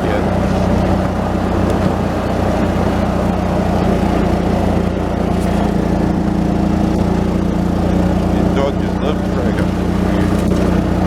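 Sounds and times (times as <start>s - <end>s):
golf cart engine running: 0.0s - 11.0s.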